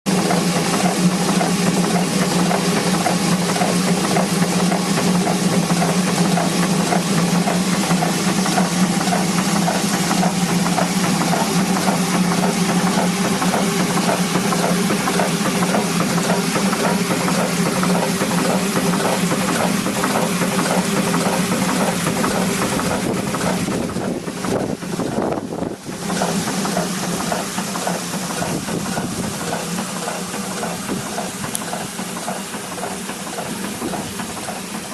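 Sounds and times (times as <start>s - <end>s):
air pumping engine running: 0.1s - 34.9s.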